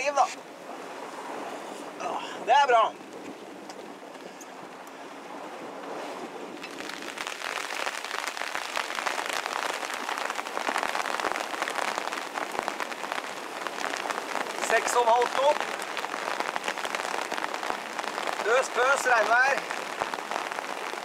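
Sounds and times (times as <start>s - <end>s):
rain on canvas cover: 0.0s - 21.0s.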